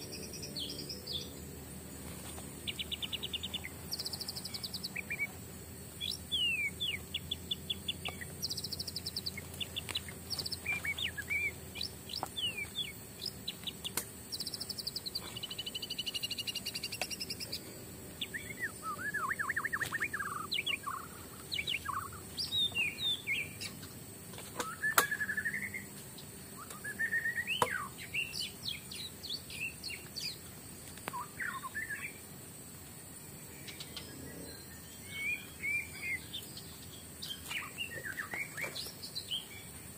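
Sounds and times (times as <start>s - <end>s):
birds chirping and trilling: 0.0s - 32.3s, 33.2s - 39.9s
high-pitched insect drone: 0.0s - 39.9s.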